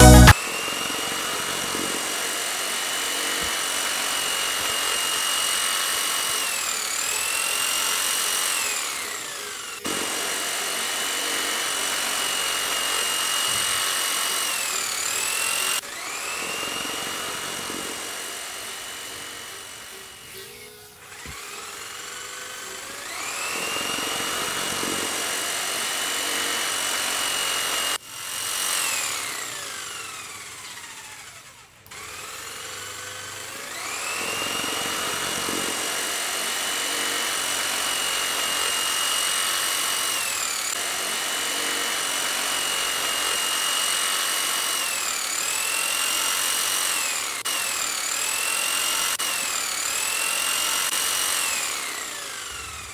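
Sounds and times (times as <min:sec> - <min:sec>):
small electric motor whining: 0:00.0 - 0:52.9.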